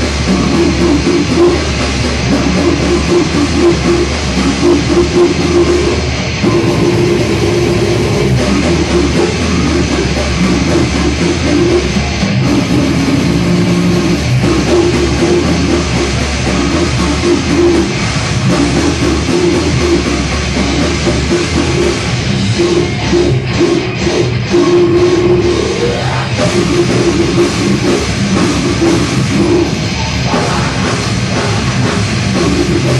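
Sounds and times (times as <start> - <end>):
bass guitar: 0.0 - 32.9
distorted electric guitars: 0.0 - 32.9
drum kit: 0.0 - 32.9.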